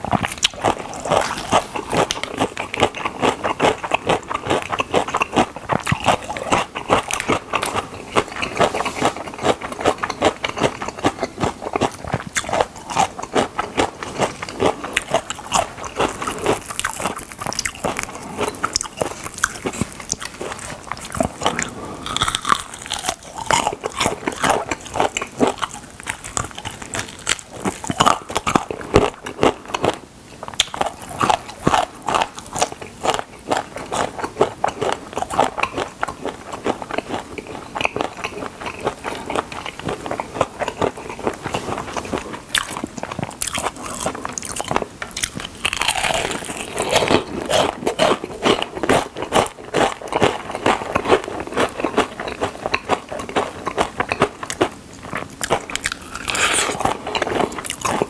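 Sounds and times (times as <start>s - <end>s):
crunchy chewing of fried chicken: 0.0s - 58.0s.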